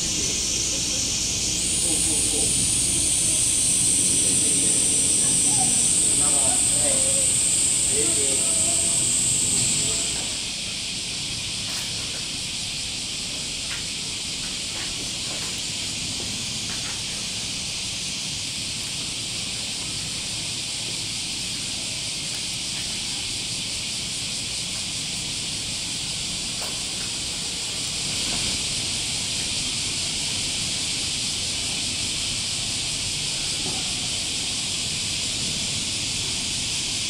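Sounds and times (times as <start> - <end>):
high-pitched hiss: 0.0 - 37.0.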